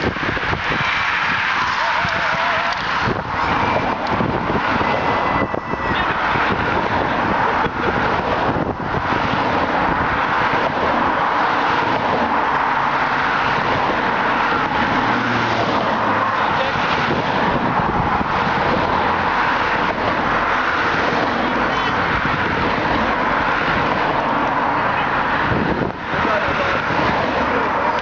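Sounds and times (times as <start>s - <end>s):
cars driving past: 0.0s - 28.0s
tyres on road: 0.0s - 28.0s.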